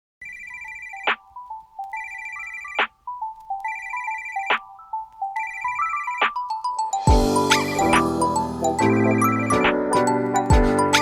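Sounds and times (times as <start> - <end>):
phone ringtone trilling: 0.2 - 11.0.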